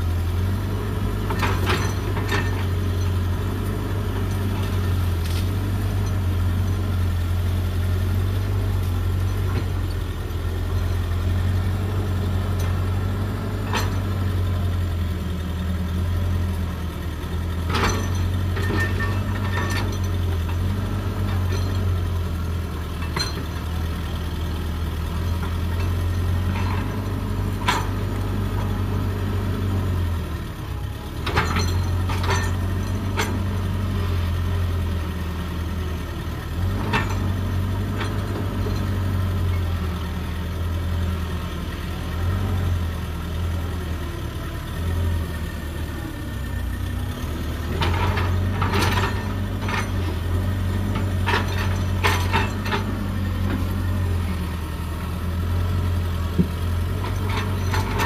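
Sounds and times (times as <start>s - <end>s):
excavator diesel engine humming: 0.0s - 58.0s.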